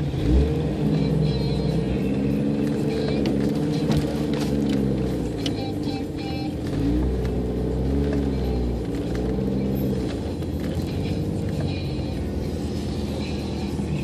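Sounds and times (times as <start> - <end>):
engine running and revving: 0.0 - 14.0.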